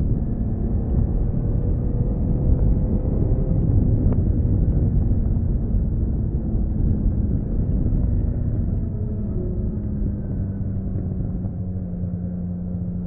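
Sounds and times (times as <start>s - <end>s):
wind rumble: 0.0s - 13.0s.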